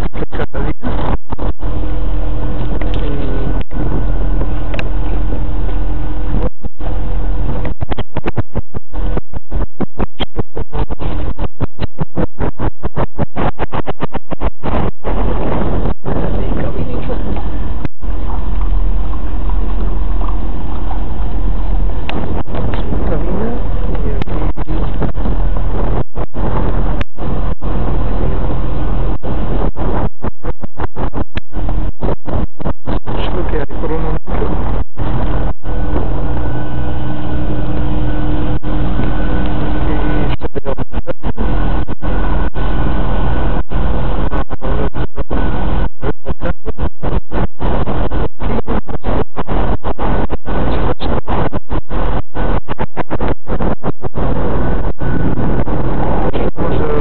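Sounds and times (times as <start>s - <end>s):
boat engine drone: 0.0s - 57.0s
wind buffeting microphone: 0.0s - 57.0s.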